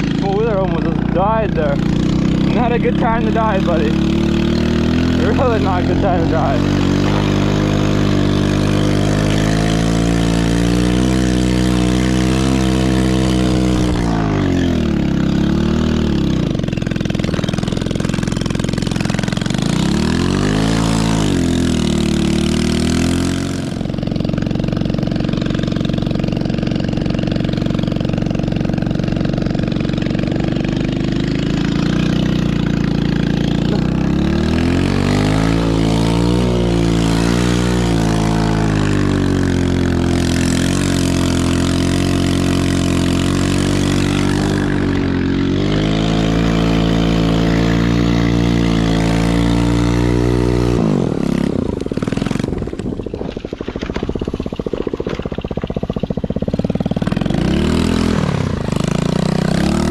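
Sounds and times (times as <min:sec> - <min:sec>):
small engine revving: 0:00.0 - 0:59.9.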